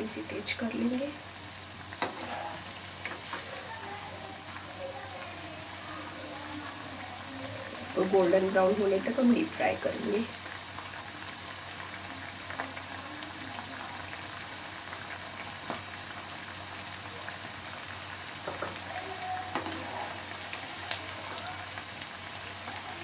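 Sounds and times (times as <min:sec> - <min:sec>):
potatoes deep-frying in oil: 0:00.0 - 0:23.0.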